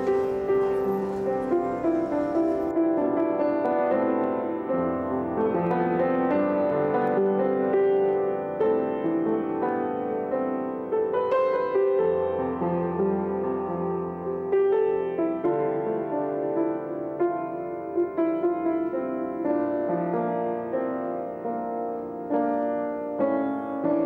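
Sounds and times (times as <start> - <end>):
upright piano melody: 0.0 - 24.0.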